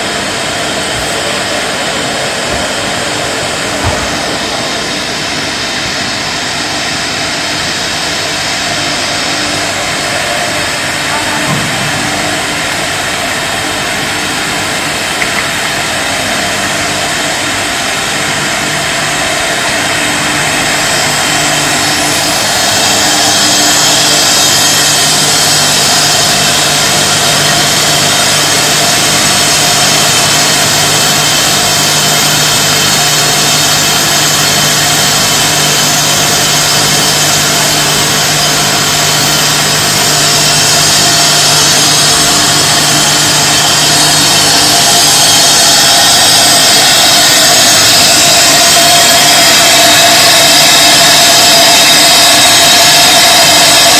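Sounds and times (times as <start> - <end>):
conveyor machinery din: 0.0 - 53.9.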